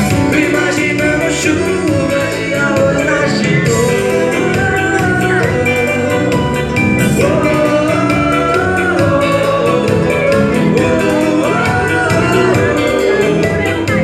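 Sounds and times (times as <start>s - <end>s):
full band accompaniment: 0.0s - 14.0s
person singing: 0.0s - 14.0s.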